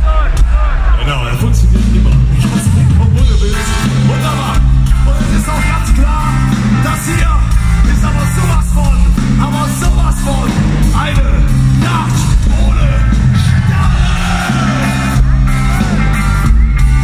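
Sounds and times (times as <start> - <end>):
person singing lead vocal: 0.0 - 15.2
live rock band playing: 0.0 - 17.0.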